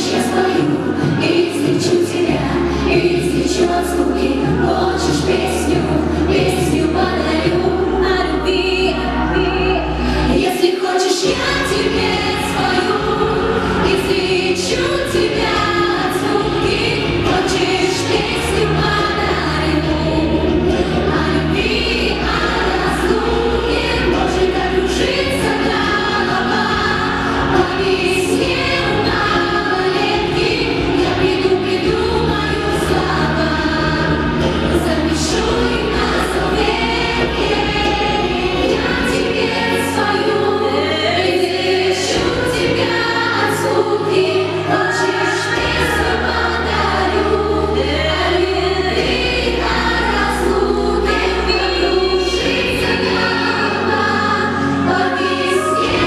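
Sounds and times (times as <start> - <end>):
group singing: 0.0 - 56.0.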